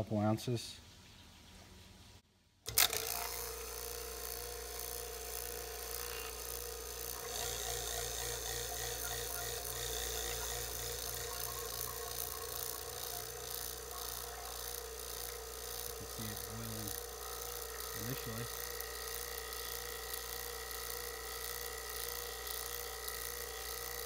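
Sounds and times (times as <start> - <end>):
vacuum pump humming: 2.7 - 24.0.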